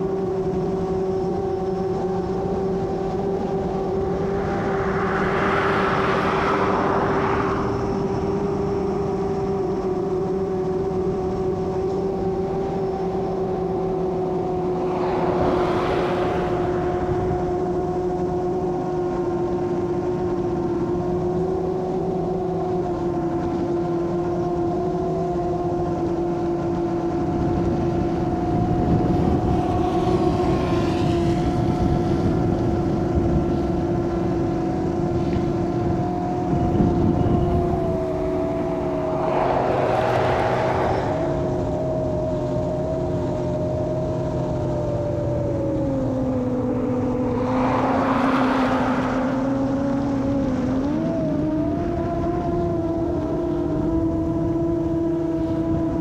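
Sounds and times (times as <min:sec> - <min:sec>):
drone propellers droning: 0:00.0 - 0:56.0.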